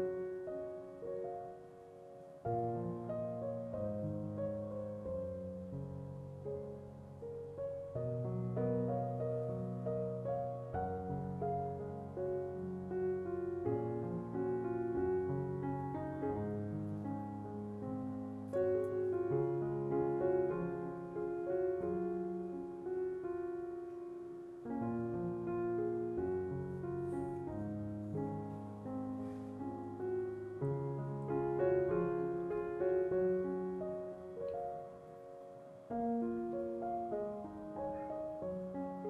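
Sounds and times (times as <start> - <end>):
gentle piano music: 0.0 - 39.0.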